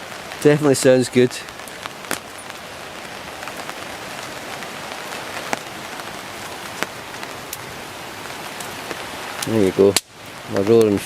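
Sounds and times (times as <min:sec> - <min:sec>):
campfire crackling: 0:00.0 - 0:11.0
sharp fire pops: 0:00.0 - 0:11.0.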